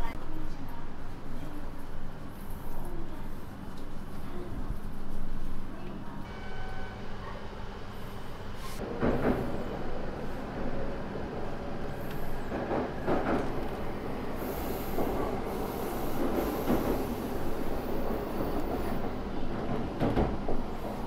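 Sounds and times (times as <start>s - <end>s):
train rolling rumble: 0.0s - 21.0s.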